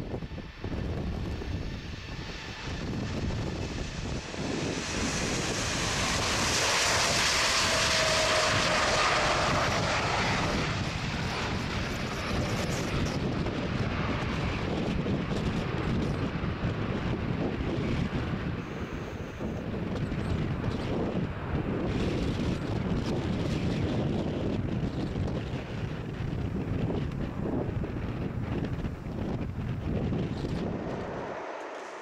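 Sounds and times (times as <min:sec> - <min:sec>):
faint falling jet whine: 0:00.0 - 0:24.6, 0:25.3 - 0:32.0
jet aircraft taking off: 0:00.0 - 0:32.0.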